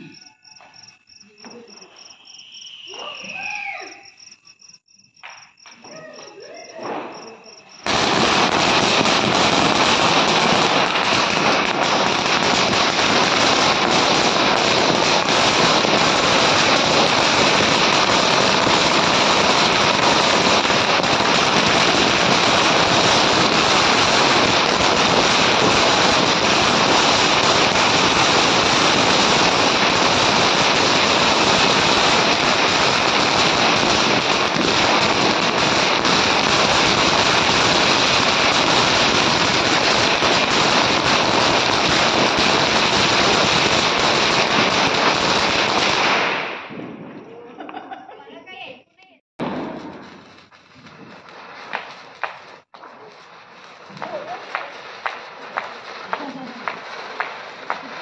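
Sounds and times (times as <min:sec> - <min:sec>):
firecrackers banging in a chain: 0:05.2 - 0:47.8, 0:49.4 - 0:58.0.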